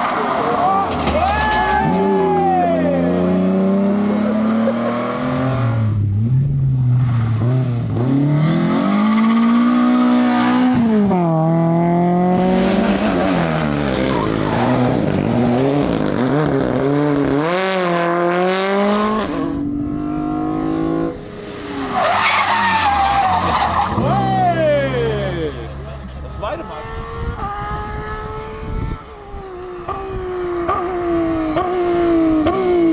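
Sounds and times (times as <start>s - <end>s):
rally car engines revving: 0.0s - 32.9s
tyres skidding: 0.0s - 32.9s.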